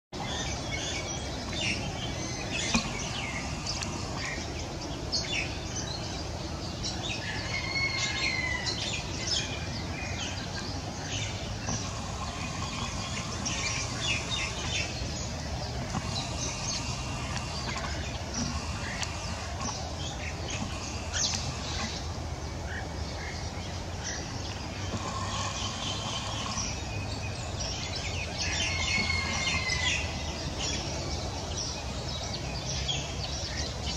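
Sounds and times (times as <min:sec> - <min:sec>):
birds chirping: 0:00.2 - 0:33.9
low background rumble: 0:00.2 - 0:33.9.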